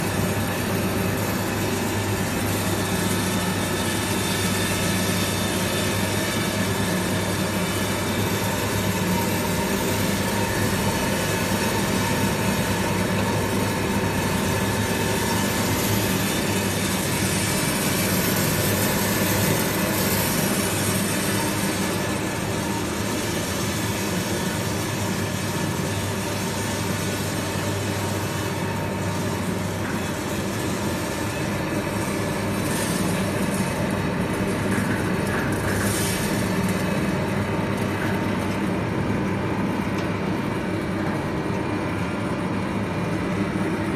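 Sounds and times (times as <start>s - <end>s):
roller mill machine hum: 0.0s - 43.9s.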